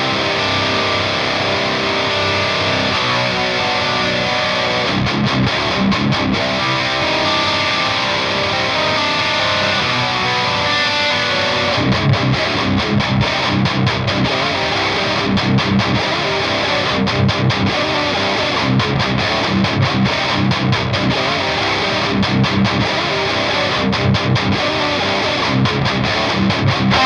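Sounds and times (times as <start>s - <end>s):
distorted electric guitar riff: 0.0s - 27.0s.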